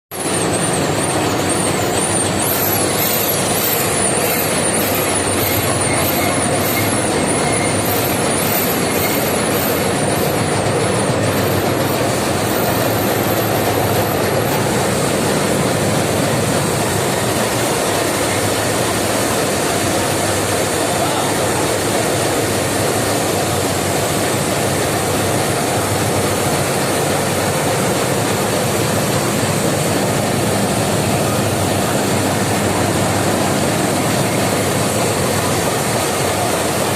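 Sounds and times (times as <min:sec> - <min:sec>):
grouting pump running: 0:00.1 - 0:36.9
high whine: 0:00.1 - 0:36.9.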